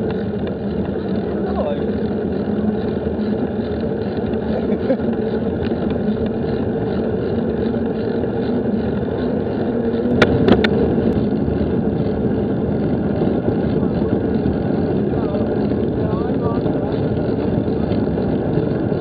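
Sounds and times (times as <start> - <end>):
wind rumble while riding: 0.0 - 19.0.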